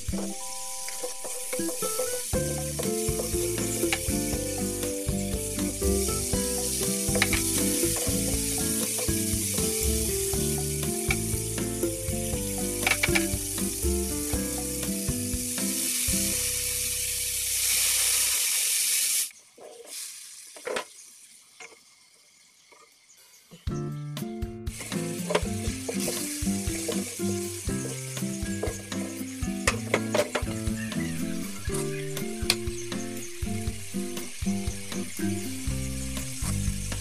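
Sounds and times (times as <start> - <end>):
background music: 0.0 - 16.9, 23.7 - 37.0
food sizzling in oil: 0.0 - 23.1, 24.7 - 37.0.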